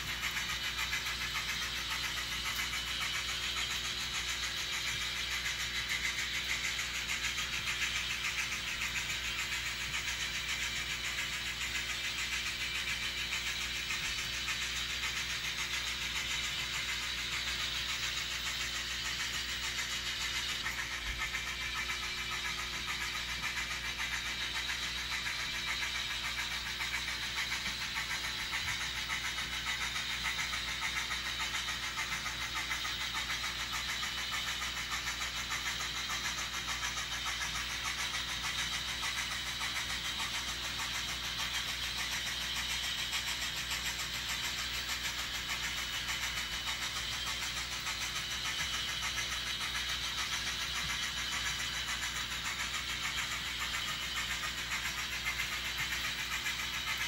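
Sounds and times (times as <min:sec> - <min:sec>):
model train running on rails: 0:00.0 - 0:57.0.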